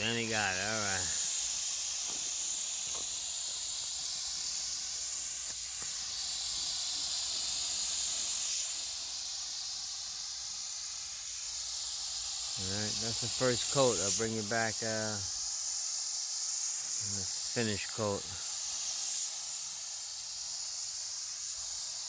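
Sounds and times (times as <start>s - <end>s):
paint spray gun hissing: 0.0s - 22.0s.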